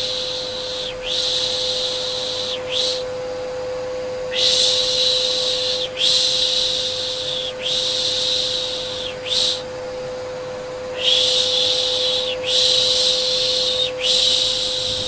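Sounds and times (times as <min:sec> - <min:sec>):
vacuum cleaner hum: 0:00.0 - 0:15.0.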